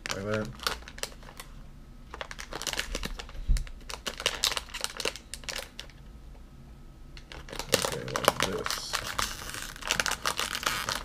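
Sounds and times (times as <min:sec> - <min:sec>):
plastic wrapper crinkling: 0:00.0 - 0:06.0, 0:07.2 - 0:11.0.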